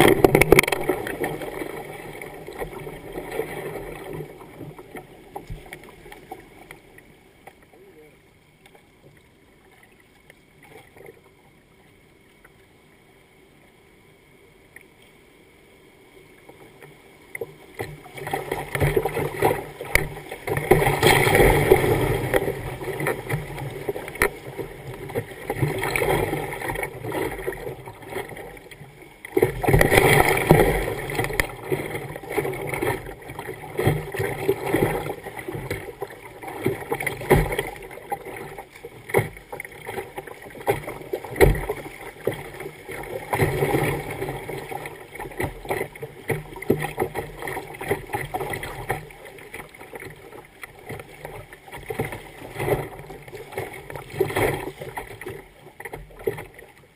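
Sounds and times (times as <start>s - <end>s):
water slapping kayak hull: 0.0s - 12.6s, 16.4s - 56.9s
river water rushing and splashing: 0.0s - 12.9s, 17.1s - 56.9s.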